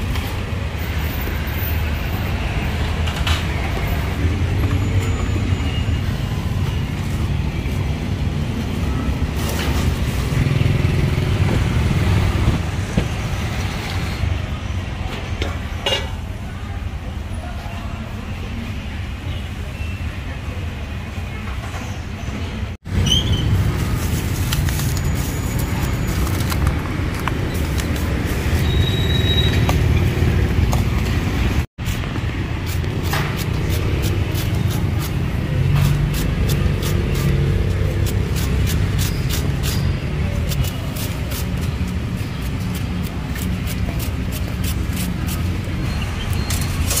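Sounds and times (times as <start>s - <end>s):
low rumble of motor traffic: 0.0s - 47.0s.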